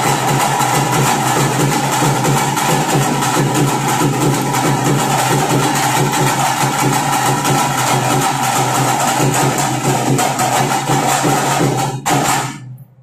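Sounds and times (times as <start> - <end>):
fast drum music: 0.0 - 12.6.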